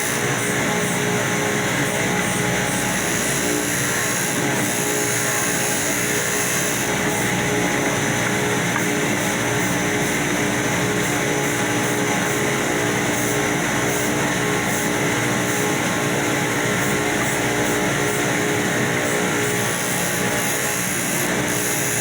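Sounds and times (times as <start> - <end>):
electric sander running: 0.0 - 22.0.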